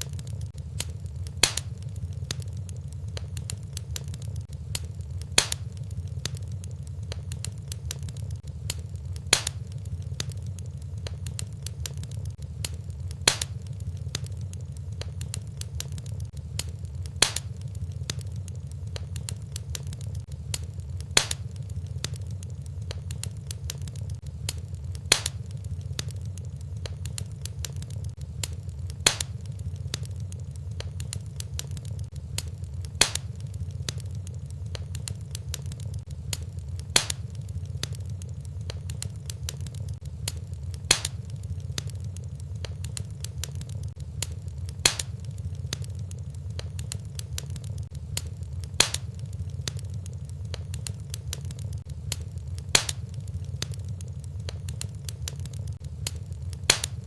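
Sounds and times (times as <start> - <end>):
sharp fire pops: 0.0 - 57.0
wood fire crackling: 0.0 - 57.0.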